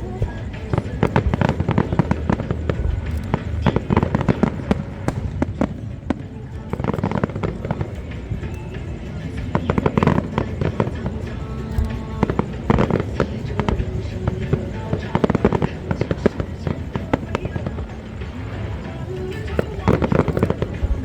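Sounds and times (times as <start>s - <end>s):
fireworks bangs and crackles: 0.0s - 21.0s
music: 0.0s - 21.0s.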